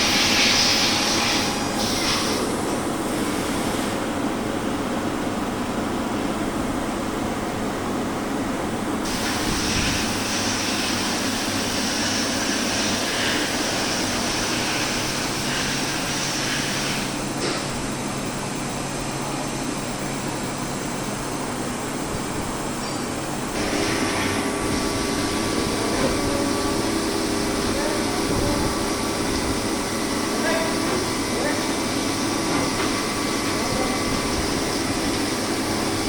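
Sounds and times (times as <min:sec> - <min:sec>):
bright high-pitched machine noise: 0:00.0 - 0:04.1, 0:09.0 - 0:36.0
milling machine humming: 0:00.0 - 0:36.0.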